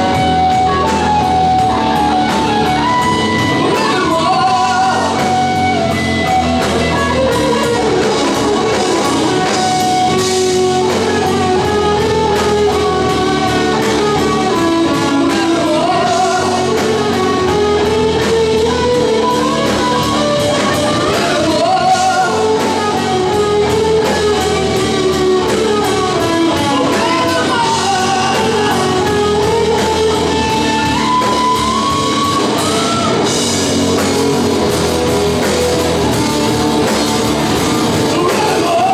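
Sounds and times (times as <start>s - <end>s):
singer: 0.0s - 33.4s, 36.8s - 38.9s
live hard rock band: 0.0s - 38.9s.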